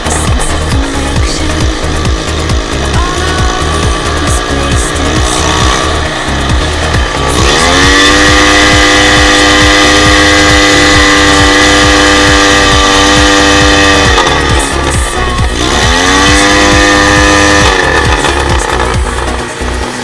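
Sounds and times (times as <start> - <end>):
background music with beat: 0.0 - 20.0
dirt bike engine revving: 0.0 - 20.0.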